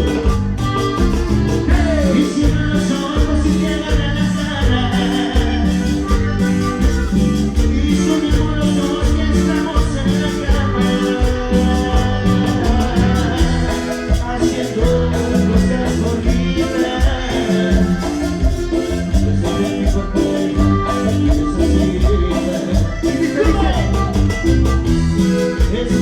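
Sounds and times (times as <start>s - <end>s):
live band playing dance music: 0.0s - 26.0s.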